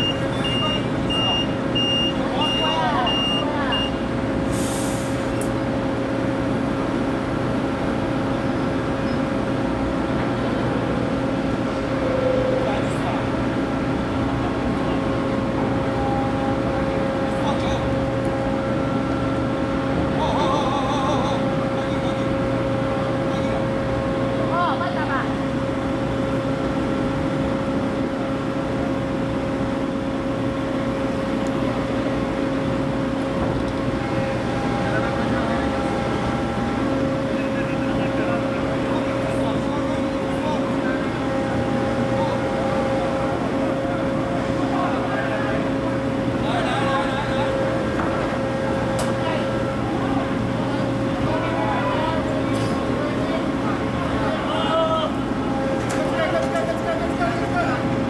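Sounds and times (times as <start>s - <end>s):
heavy diesel machinery humming: 0.0s - 58.0s.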